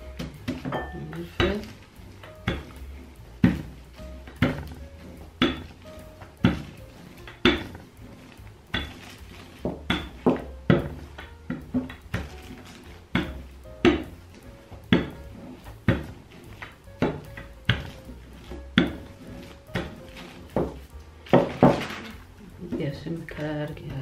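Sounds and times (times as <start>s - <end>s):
rolling pin knocking on dough: 0.0s - 21.9s.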